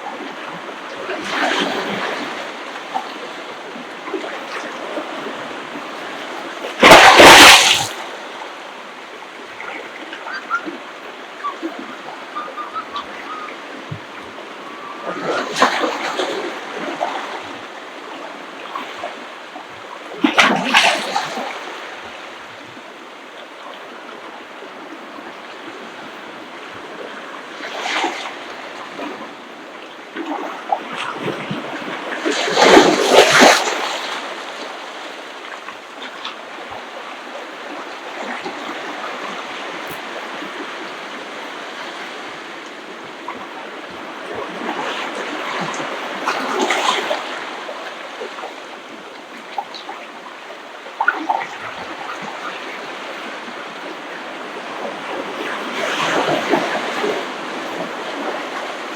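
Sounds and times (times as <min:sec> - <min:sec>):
waves crashing on beach: 0:00.0 - 0:58.9.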